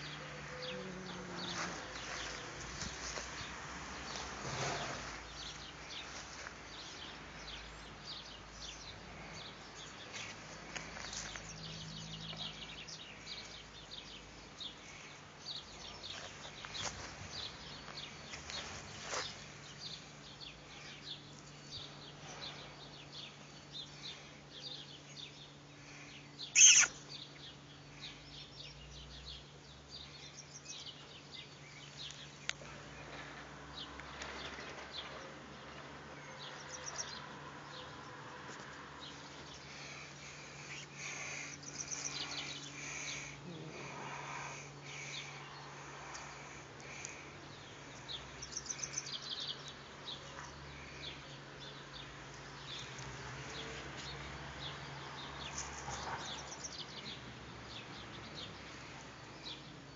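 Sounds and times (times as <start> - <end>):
faint low hum: 0.0 - 59.9
small birds chirping: 0.0 - 59.9.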